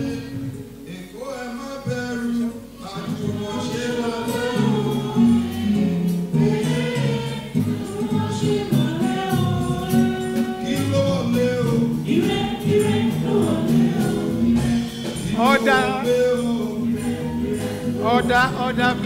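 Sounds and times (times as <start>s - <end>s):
gospel choir singing: 0.0s - 19.0s
instrumental backing: 0.0s - 19.0s.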